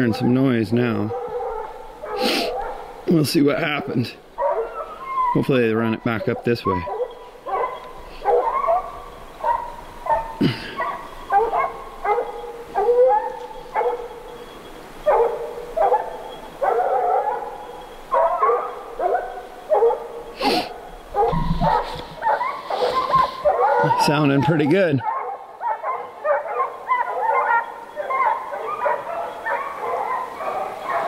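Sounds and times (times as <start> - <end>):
hounds baying: 0.0 - 31.0.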